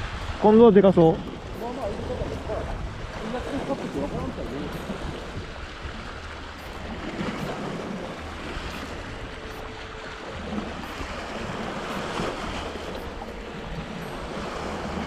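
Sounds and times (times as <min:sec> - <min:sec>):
sea waves washing over rocks: 0:00.0 - 0:15.0
wind rumbling on microphone: 0:00.0 - 0:15.0.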